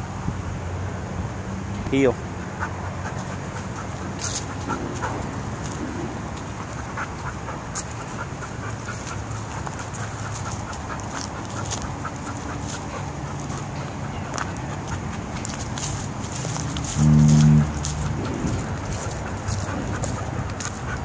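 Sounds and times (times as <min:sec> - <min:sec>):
low outdoor hum: 0:00.0 - 0:21.0
footsteps on pavement and leaves: 0:02.4 - 0:21.0.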